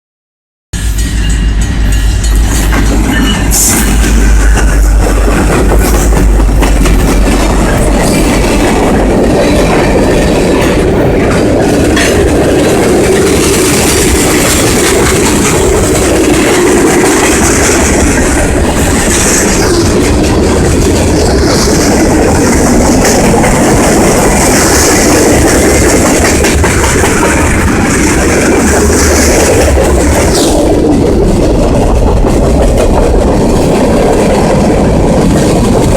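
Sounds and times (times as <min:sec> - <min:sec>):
freight train wheels rumbling: 0:00.8 - 0:35.9
wheels clacking over rail joints: 0:02.4 - 0:35.9.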